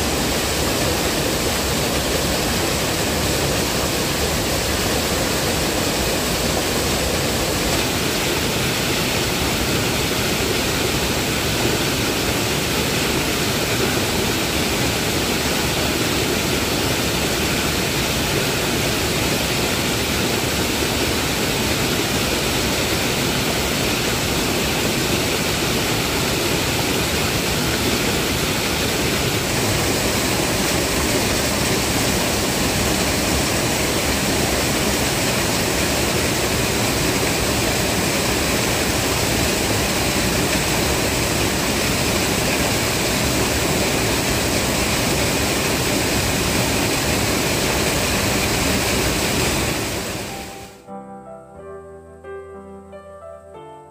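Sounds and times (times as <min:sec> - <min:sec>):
waterfall cascading over rocks: 0:00.0 - 0:50.8.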